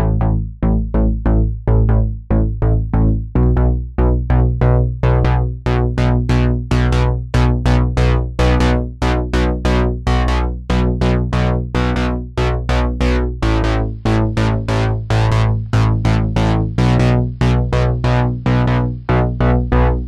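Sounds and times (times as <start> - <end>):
steady bass: 0.0 - 20.0.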